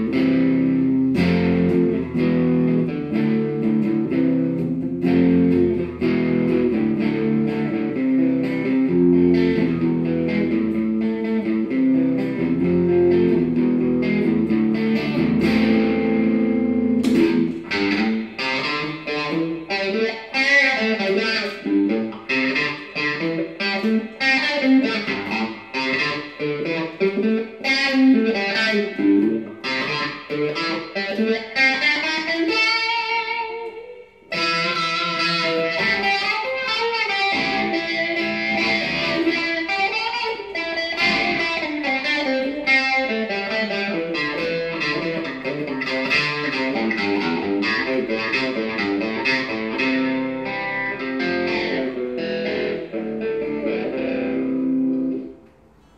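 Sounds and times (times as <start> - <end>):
electric guitar with wah pedal: 0.0 - 55.5.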